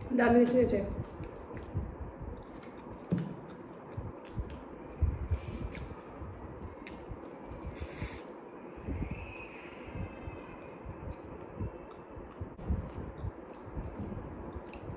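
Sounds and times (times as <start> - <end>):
eating sounds: 1.0 - 8.4, 9.9 - 14.9.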